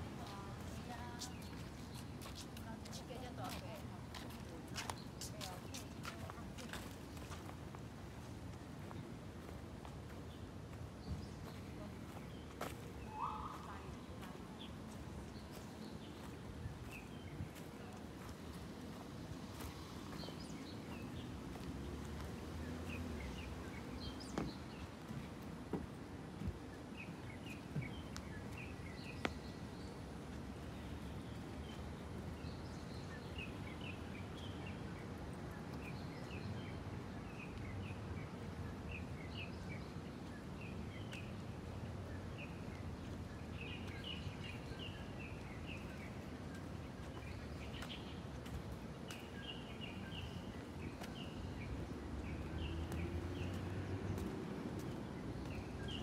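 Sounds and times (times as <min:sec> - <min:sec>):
birds chirping: 0:08.3 - 0:56.0.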